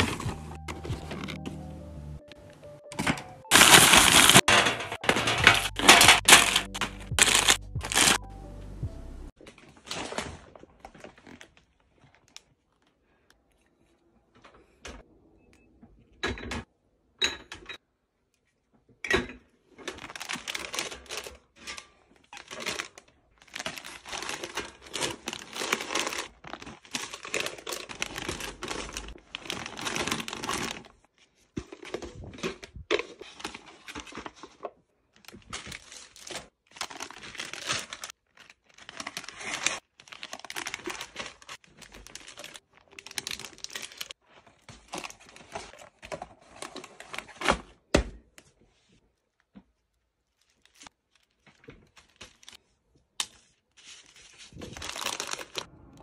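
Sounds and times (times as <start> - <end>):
plastic wrappers crinkling: 0.0 - 1.4, 3.5 - 8.2, 9.4 - 13.2, 19.7 - 47.7, 48.7 - 56.0.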